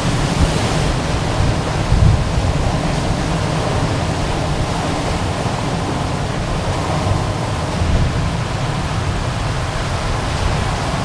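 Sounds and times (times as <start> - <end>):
ocean surf on rocks: 0.0 - 11.0.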